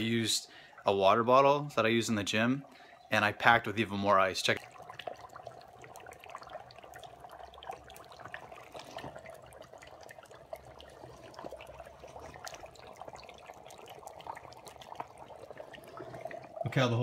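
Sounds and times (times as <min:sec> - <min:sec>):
dry ice bubbling in water: 0:00.0 - 0:17.0.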